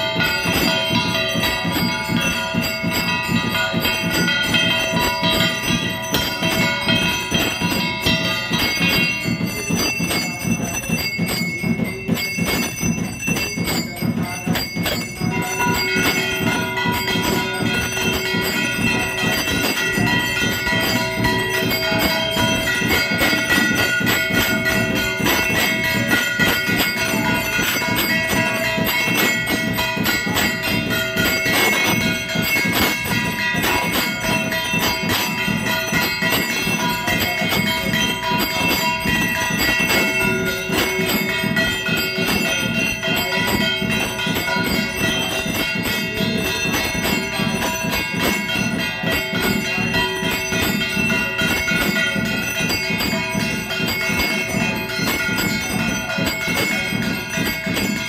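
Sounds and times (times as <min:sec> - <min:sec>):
temple bells ringing: 0:00.0 - 0:58.0.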